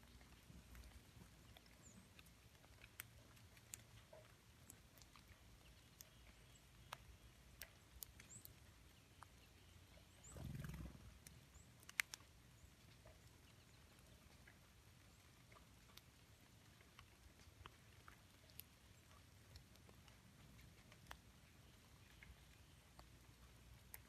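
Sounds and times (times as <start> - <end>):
faint ticks and clicks: 0.0 - 24.0.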